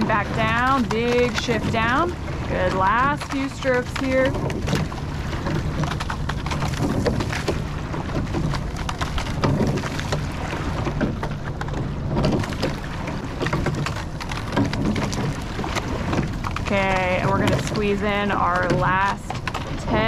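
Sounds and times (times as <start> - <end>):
oar blades splashing: 0.0 - 20.0
oars knocking: 0.0 - 20.0
water rushing along a hull: 0.0 - 20.0.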